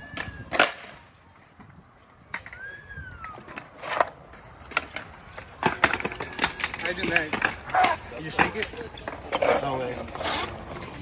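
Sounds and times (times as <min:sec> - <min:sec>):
skateboard clacking on ground: 0:00.0 - 0:11.0.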